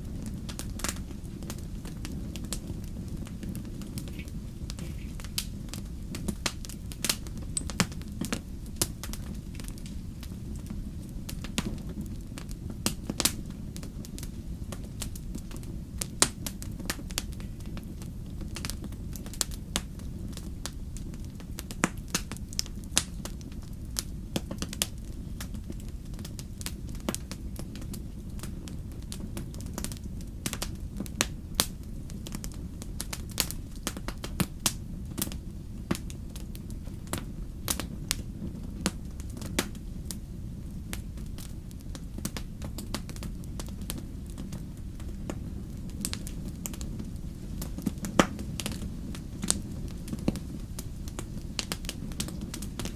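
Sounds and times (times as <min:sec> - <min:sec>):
fire crackling and popping: 0:00.0 - 0:52.9
low roar of flames: 0:00.0 - 0:52.9.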